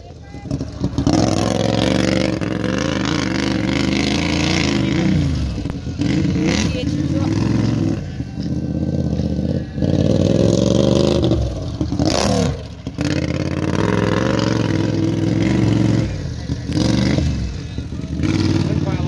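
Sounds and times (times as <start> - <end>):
lawn mower engine revving: 0.0 - 19.0.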